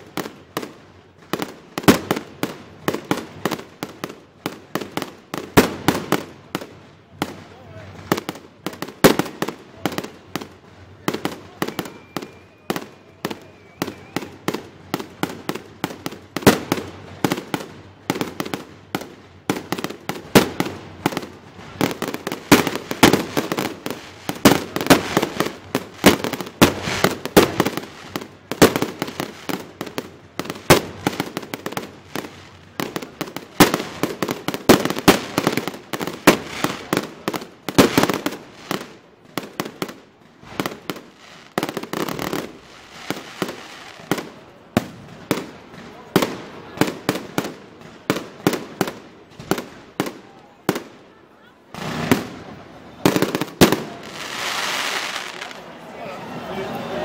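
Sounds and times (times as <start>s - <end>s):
fireworks bursting and crackling: 0.0s - 55.9s.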